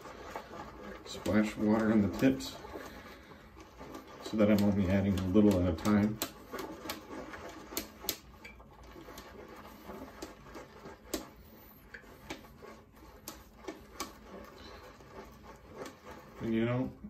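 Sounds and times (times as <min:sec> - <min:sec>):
shaving brush swirling in lather: 0:00.0 - 0:17.0.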